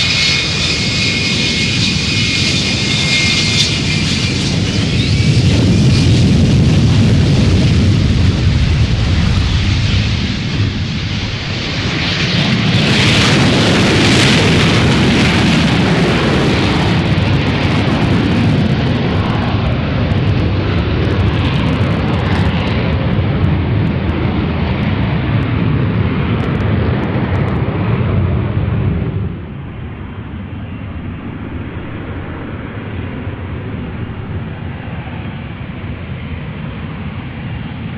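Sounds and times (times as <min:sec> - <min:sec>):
jet engine roaring: 0:00.0 - 0:37.9.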